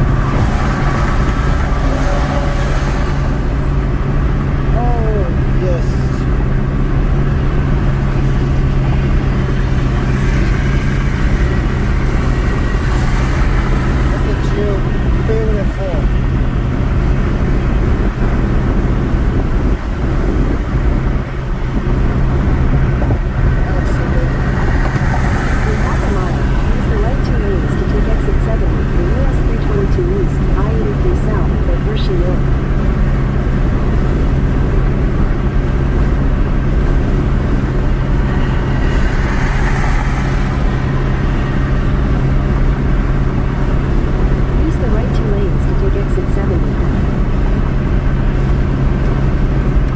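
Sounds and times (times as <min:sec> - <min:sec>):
constant hum: 0:00.0 - 0:49.9
engine and tyre rumble: 0:00.0 - 0:49.9.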